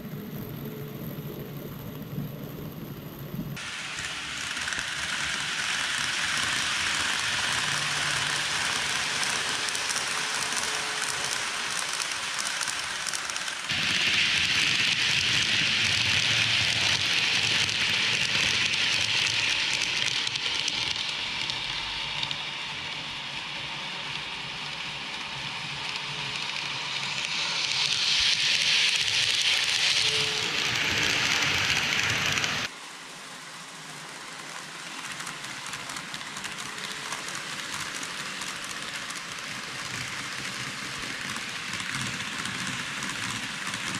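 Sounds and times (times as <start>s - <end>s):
model train wheels rattling: 3.6s - 22.5s, 24.0s - 32.7s, 33.7s - 43.9s.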